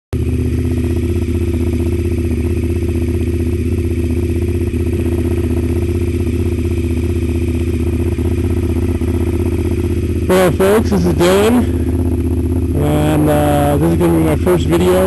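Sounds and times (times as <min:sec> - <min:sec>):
motorcycle engine running steadily: 0:00.1 - 0:15.0.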